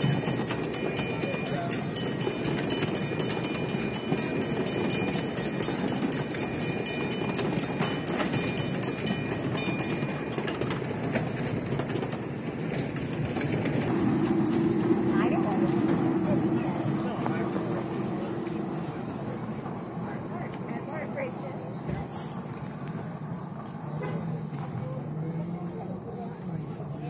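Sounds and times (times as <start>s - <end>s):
train cars rumbling on track: 0.0s - 27.0s
wheels clicking over rail joints: 0.0s - 27.0s.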